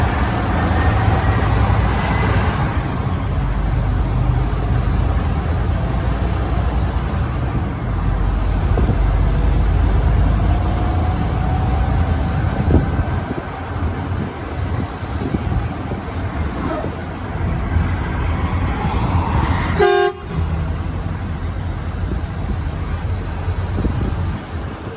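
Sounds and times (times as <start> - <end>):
truck engine and road rumble: 0.0 - 24.9
tyre and wind noise: 0.0 - 24.9.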